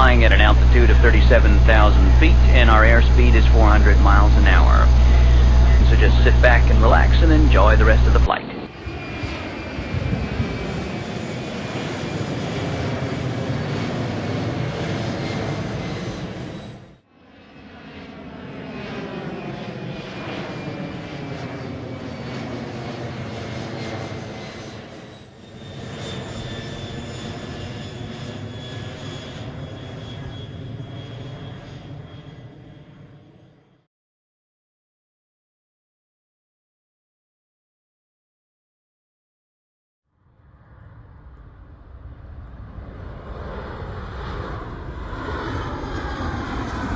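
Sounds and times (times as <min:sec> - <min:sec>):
jet engines whining past: 0:00.0 - 0:33.8, 0:40.2 - 0:46.9.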